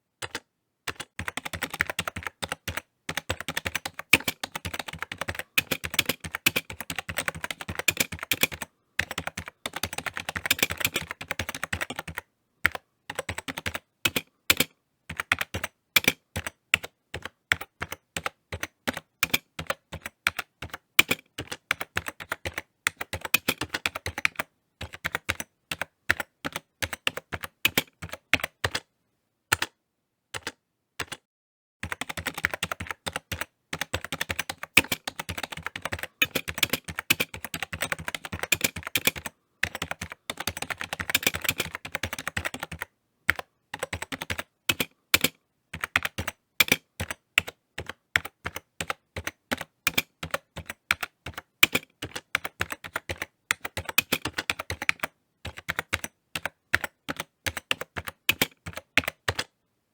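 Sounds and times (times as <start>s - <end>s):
computer keyboard typing: 0.2s - 28.9s, 29.5s - 29.8s, 30.4s - 31.2s, 31.8s - 59.6s.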